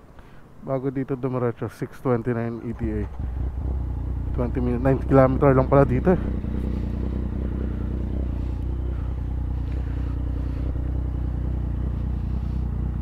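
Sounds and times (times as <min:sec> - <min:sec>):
motorcycle engine idling: 0:02.5 - 0:13.0.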